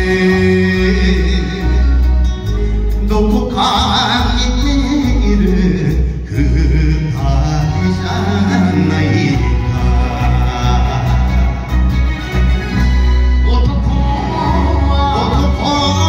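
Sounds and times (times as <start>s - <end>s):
man singing into a microphone: 0.0s - 2.3s, 2.9s - 12.0s, 13.4s - 16.0s.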